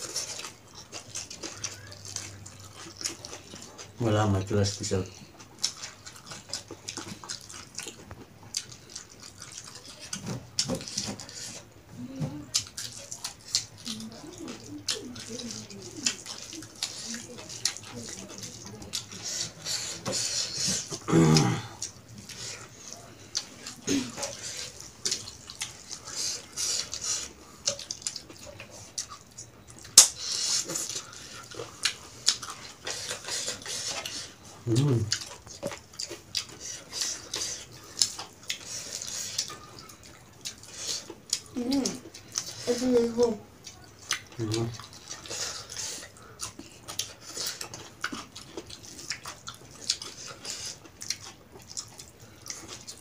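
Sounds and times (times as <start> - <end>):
people chewing and smacking food: 0.0 - 53.0.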